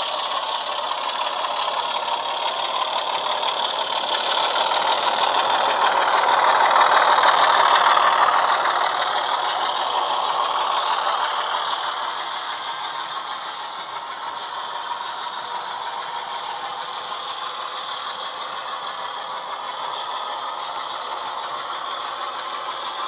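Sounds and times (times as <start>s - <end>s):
model diesel engine sound: 0.0s - 23.0s
model train wheels rumbling on track: 0.0s - 23.0s.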